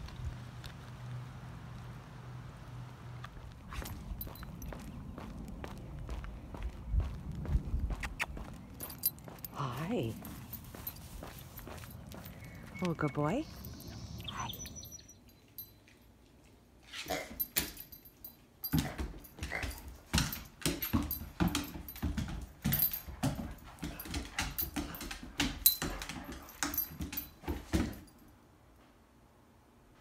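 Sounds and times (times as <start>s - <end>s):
dog paws on wooden floor: 3.2s - 28.3s.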